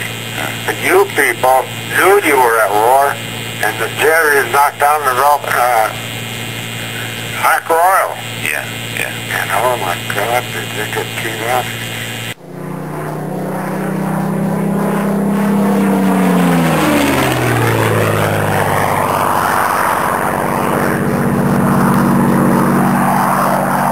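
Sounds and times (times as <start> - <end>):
propeller aircraft flying past: 0.0 - 23.9.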